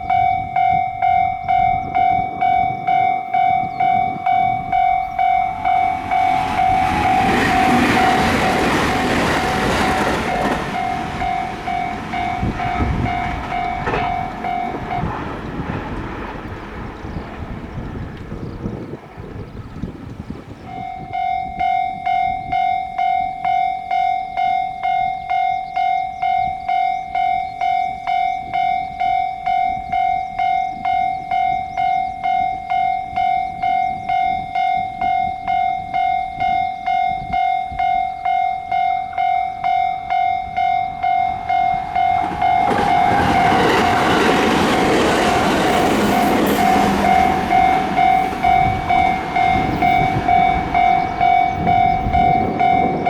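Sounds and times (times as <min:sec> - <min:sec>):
level crossing warning bell: 0:00.0 - 0:17.8, 0:20.6 - 0:53.0
train running noise: 0:00.0 - 0:53.0.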